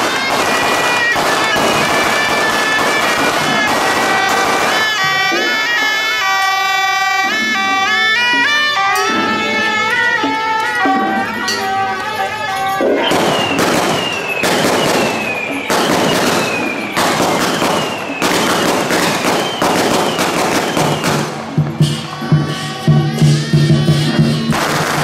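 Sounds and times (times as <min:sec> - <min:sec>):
firecrackers crackling: 0:00.0 - 0:10.0, 0:10.8 - 0:25.0
shrill reed horn melody: 0:00.0 - 0:25.0.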